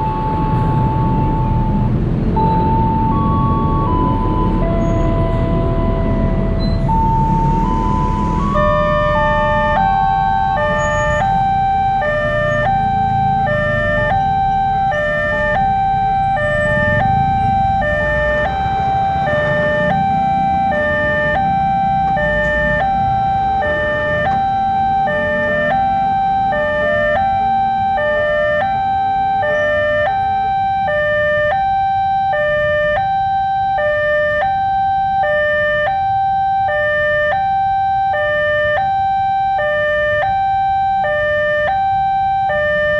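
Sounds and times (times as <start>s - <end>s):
two-tone level crossing siren: 0.0s - 42.9s.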